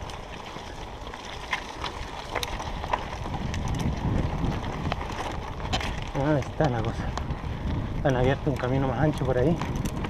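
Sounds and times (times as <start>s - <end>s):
bike clicks and rattles: 0.0s - 10.0s
bike tyre rumble on dirt: 0.0s - 10.0s.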